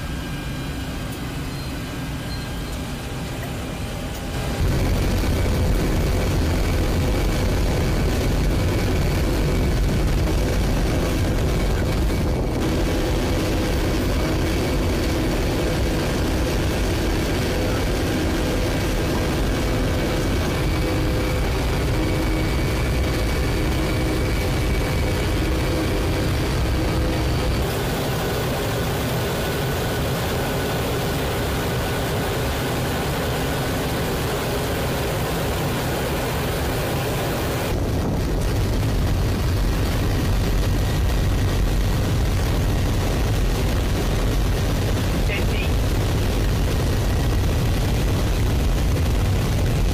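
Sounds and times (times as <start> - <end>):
humming tones: 0.0 - 49.9
jet engine and airflow noise: 0.0 - 49.9.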